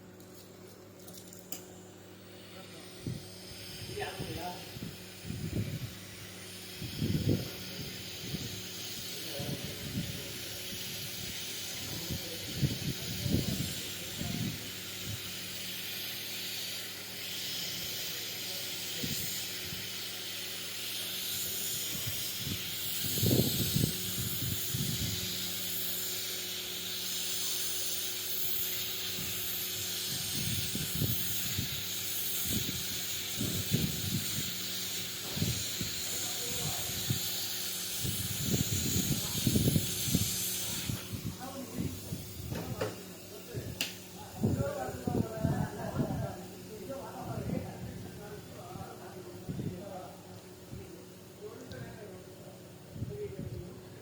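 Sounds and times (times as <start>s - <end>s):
steady airy hiss: 1.1s - 54.0s.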